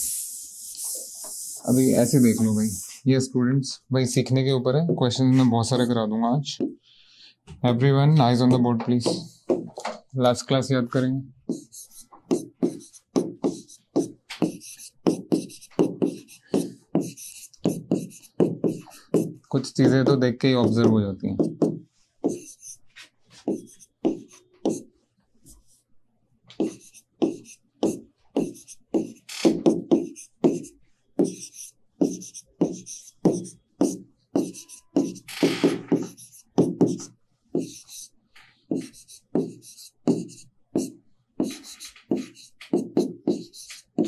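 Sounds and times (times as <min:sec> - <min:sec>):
chalk tapping and scratching on blackboard: 0:00.0 - 0:03.0, 0:08.4 - 0:09.8, 0:11.5 - 0:24.9, 0:26.5 - 0:44.0.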